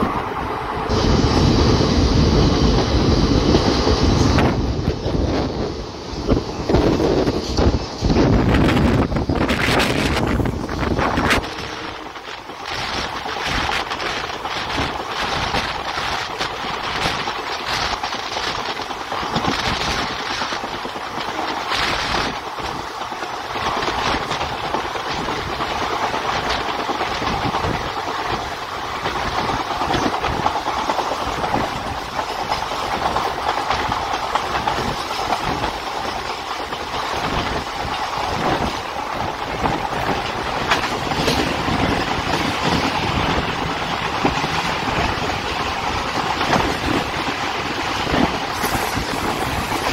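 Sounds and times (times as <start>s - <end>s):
train rumble and rush: 0.0s - 49.9s
wheels clattering on track: 0.0s - 49.9s.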